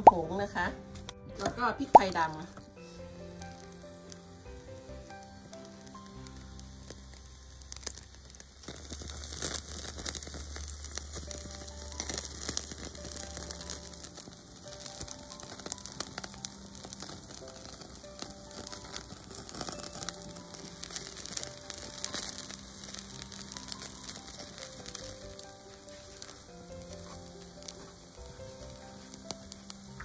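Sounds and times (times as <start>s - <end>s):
bones sizzling on grill: 0.0s - 30.0s
light background music: 0.0s - 30.0s.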